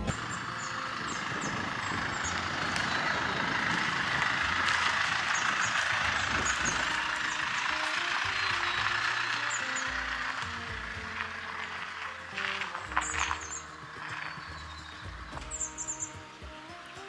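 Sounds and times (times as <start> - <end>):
steady rushing noise: 0.0 - 16.5.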